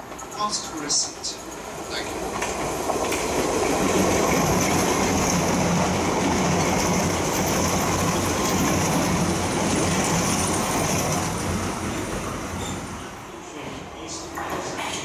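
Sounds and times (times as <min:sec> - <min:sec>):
underground train rumble: 0:00.0 - 0:15.0.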